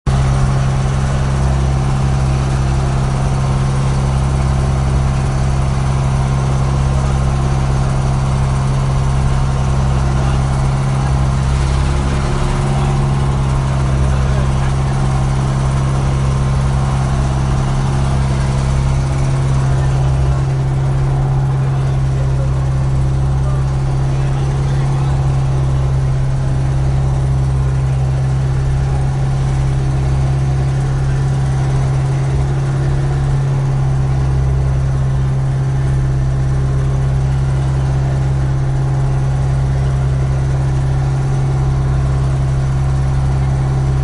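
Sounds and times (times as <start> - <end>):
motor boat engine running: 0.0 - 44.0.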